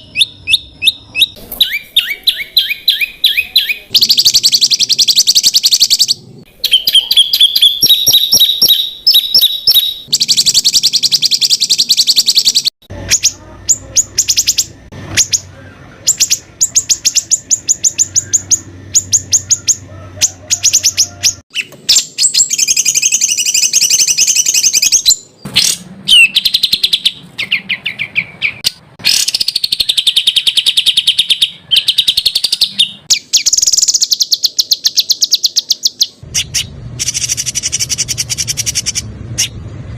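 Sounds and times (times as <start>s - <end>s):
songbirds singing sharp notes: 0.0s - 39.7s.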